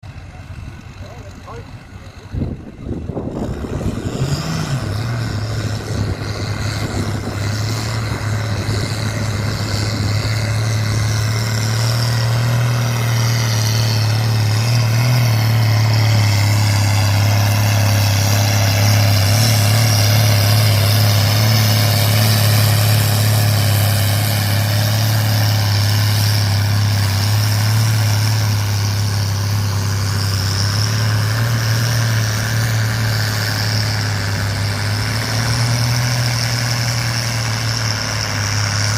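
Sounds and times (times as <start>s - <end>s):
tractor engine working under load: 0.0s - 38.9s.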